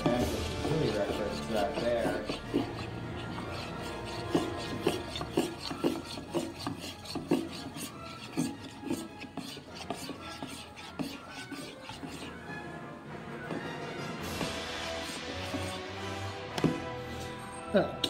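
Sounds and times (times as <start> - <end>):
metal spoon scraping a bowl: 0.0 - 12.6, 13.4 - 17.8.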